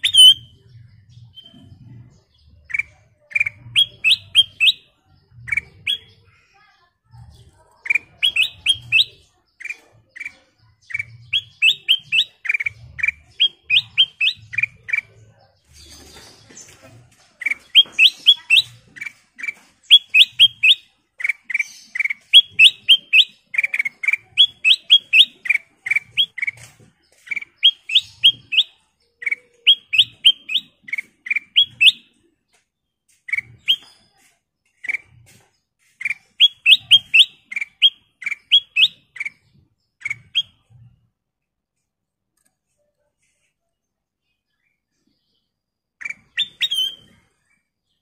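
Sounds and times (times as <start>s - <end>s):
bulbul chirping: 0.0s - 6.2s, 7.3s - 16.2s, 17.4s - 32.2s, 33.1s - 40.7s, 45.9s - 47.2s.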